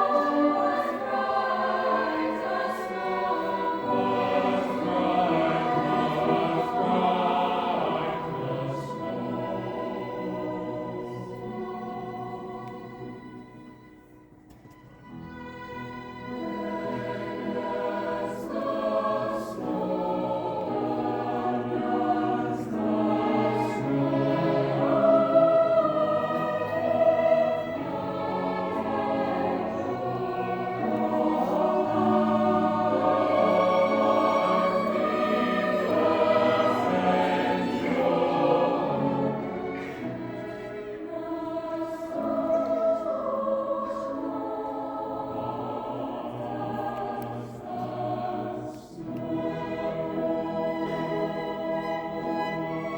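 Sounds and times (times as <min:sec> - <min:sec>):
choir singing in harmony: 0:00.0 - 0:52.9.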